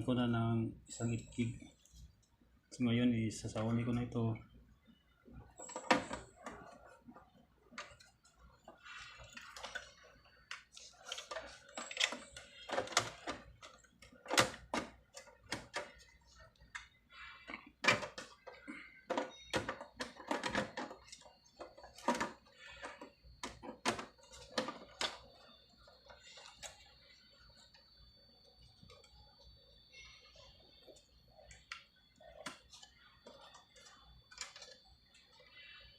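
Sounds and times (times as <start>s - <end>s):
faint high whine: 0.0s - 35.9s.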